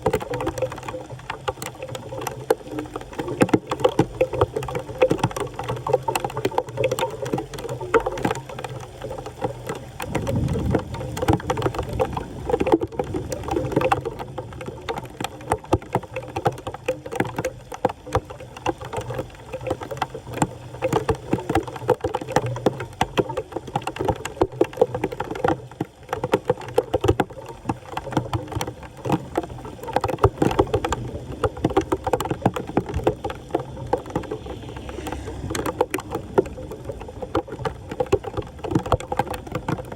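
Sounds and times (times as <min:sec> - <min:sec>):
floodwater splashing and sloshing: 0:00.0 - 0:39.9.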